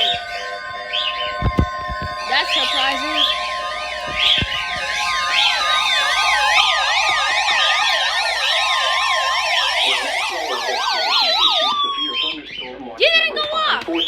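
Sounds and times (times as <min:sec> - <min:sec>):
tones gliding downward: 0:00.0 - 0:12.6
electronic sirens warbling: 0:00.0 - 0:13.3.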